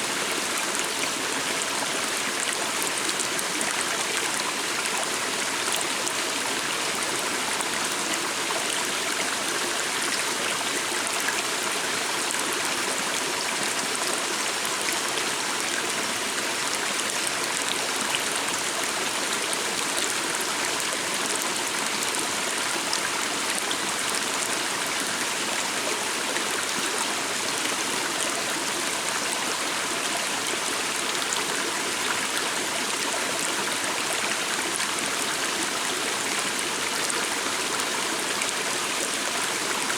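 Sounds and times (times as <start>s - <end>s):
small stream running: 0.0s - 39.9s.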